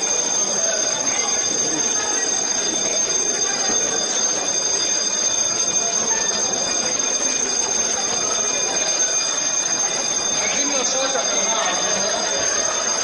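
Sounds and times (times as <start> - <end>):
crowd moving through building: 0.0 - 13.0
electric alarm bell ringing: 0.0 - 13.0.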